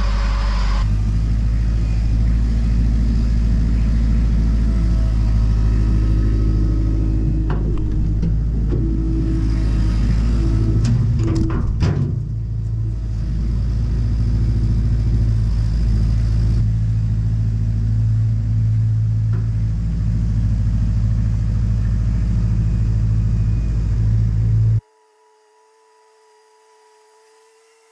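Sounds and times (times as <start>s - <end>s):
tractor engine drone: 0.0s - 27.9s.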